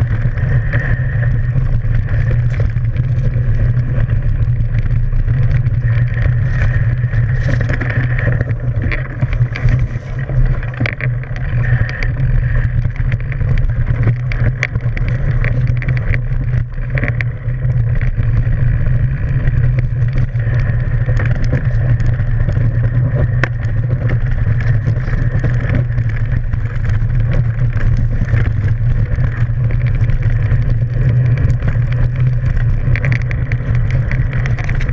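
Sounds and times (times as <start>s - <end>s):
bike tyre rolling on dirt: 0.0s - 34.9s
wind on microphone: 0.0s - 34.9s.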